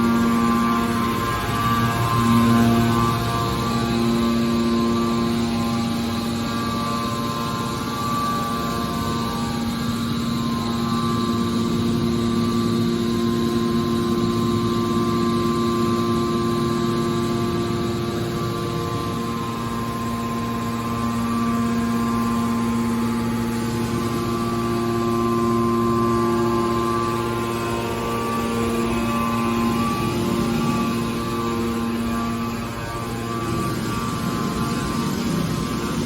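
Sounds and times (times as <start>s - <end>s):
hydraulic power unit humming: 0.0s - 36.0s.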